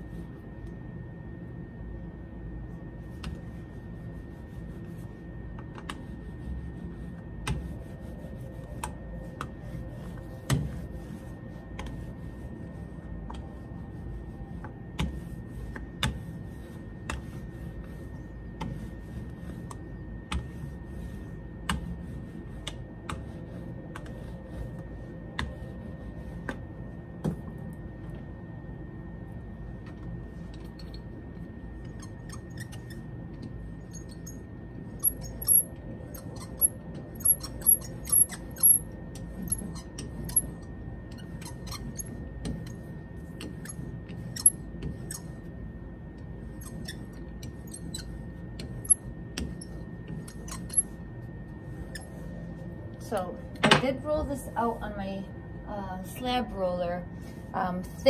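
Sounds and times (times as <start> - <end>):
faint steady hum: 0.0 - 58.0
rolling pin rubbing rumble: 2.6 - 28.4, 29.1 - 55.0.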